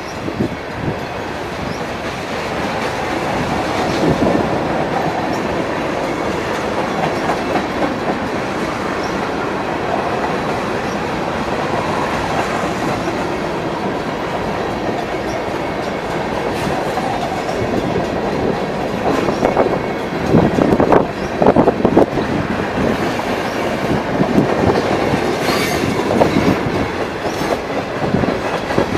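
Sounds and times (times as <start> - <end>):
freight train wheels clattering: 0.0 - 28.9
train cars clanking: 0.0 - 28.9.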